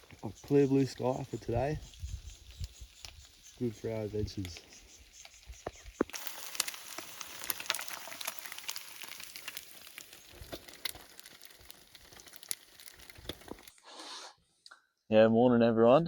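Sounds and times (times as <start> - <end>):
food sizzling in a pan: 0.0 - 13.7.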